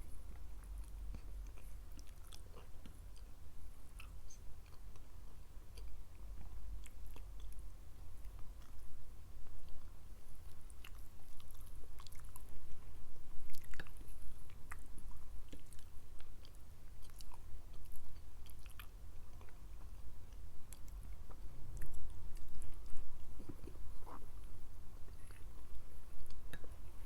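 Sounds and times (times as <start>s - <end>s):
mouth chewing food: 0.0s - 27.0s.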